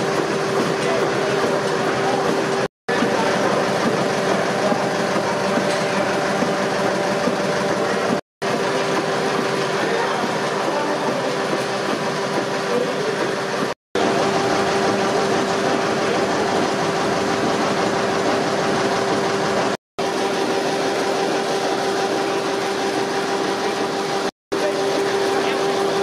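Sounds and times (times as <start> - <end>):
stationary engines clattering: 0.0 - 26.0.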